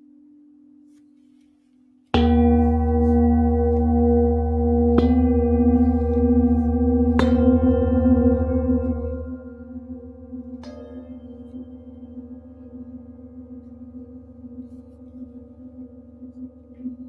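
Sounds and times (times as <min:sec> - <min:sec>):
metal singing bowls ringing: 0:02.2 - 0:17.0.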